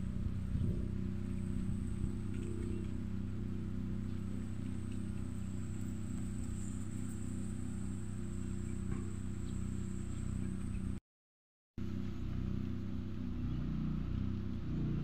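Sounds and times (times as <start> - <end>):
continuous low hum: 0.0 - 11.0, 11.8 - 15.0.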